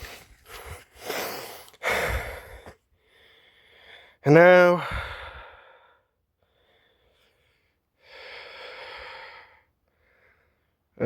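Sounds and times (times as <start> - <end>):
person breathing close to microphone: 0.0 - 4.2, 4.8 - 10.8.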